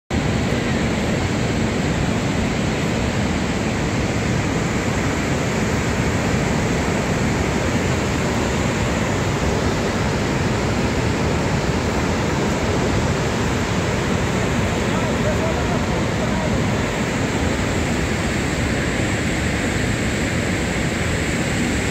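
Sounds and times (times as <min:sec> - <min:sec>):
waterfall rushing: 0:00.2 - 0:21.9.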